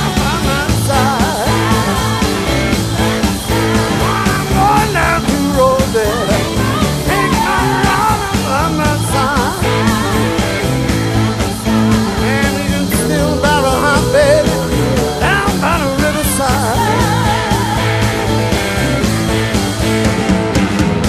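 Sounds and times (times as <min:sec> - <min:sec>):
blues-rock band playing loudly: 0:00.0 - 0:21.0
electric guitar lead with bent notes: 0:00.0 - 0:21.0.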